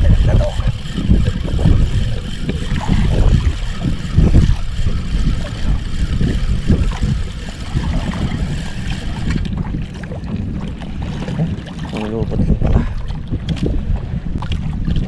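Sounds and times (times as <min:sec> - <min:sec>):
water slapping against boat: 0:00.0 - 0:15.0
wind buffeting microphone: 0:00.0 - 0:15.0.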